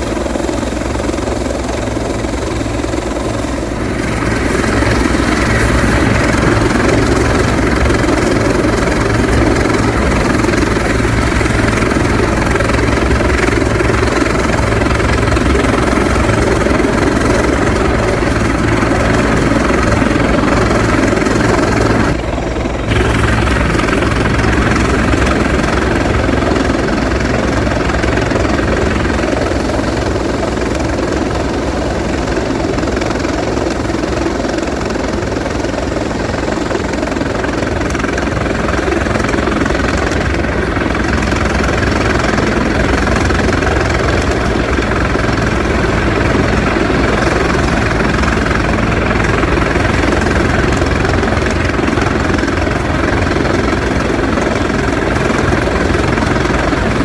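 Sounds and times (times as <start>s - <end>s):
helicopter drone: 0.0s - 57.0s.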